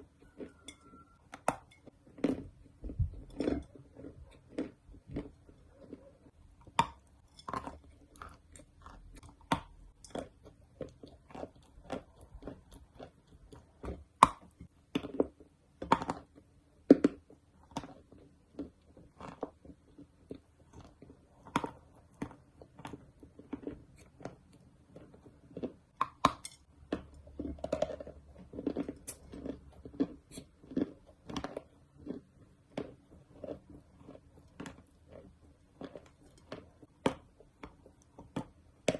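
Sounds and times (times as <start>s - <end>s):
clay being chewed with crunches: 0.0s - 38.9s.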